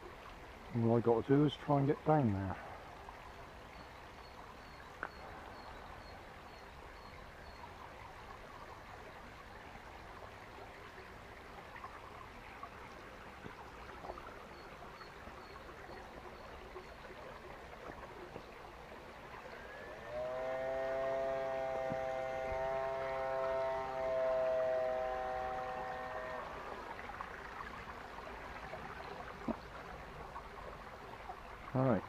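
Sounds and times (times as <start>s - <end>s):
stream trickling: 0.0s - 32.0s.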